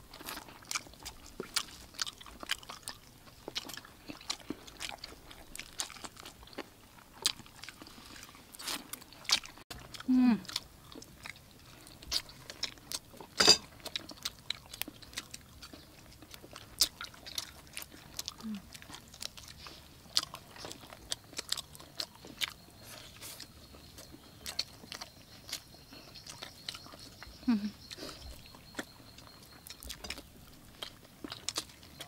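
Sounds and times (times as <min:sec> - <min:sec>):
people chewing chicken wings: 0:00.0 - 0:32.0.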